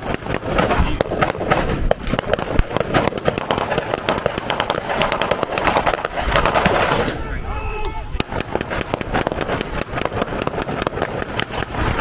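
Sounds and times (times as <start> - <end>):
blank gunfire volleys: 0.0 - 7.2, 8.1 - 12.0.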